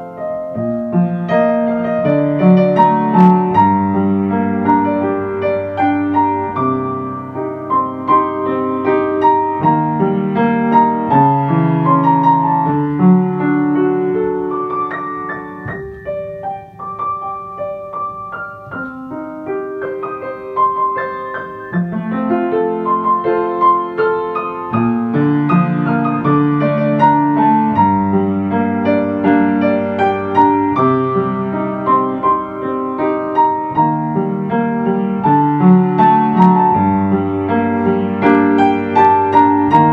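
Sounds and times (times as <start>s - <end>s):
mellow keyboard music: 0.0s - 39.9s.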